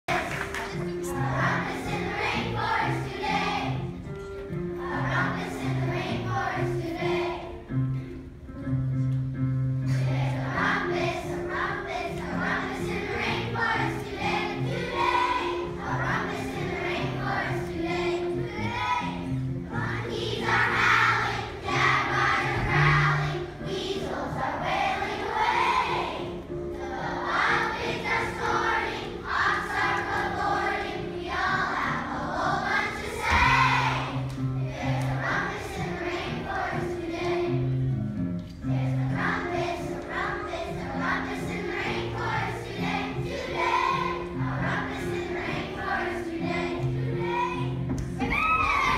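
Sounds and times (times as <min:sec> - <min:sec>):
children singing: 0:00.1 - 0:04.0, 0:04.8 - 0:07.7, 0:09.9 - 0:37.8, 0:38.6 - 0:48.9.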